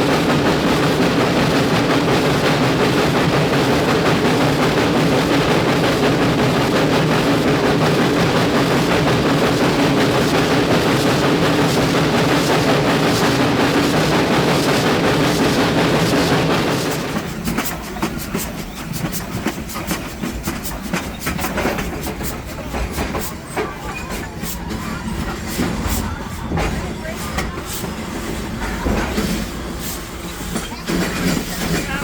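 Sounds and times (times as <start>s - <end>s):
train rumbling along track: 0.0s - 32.0s.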